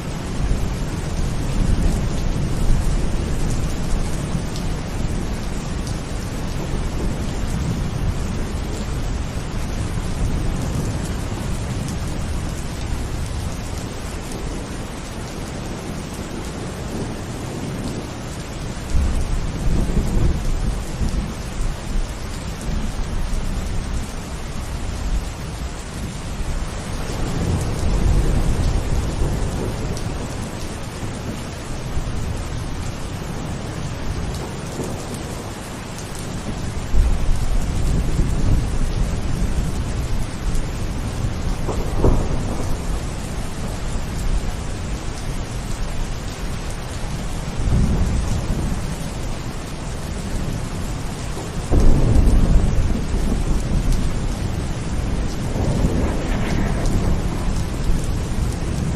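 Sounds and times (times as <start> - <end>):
rain falling: 0.0 - 58.9
rolling thunder rumbling: 0.2 - 58.9.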